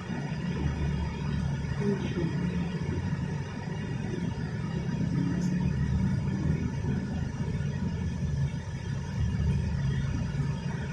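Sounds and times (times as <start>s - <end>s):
heavy rain roar: 0.0s - 10.9s.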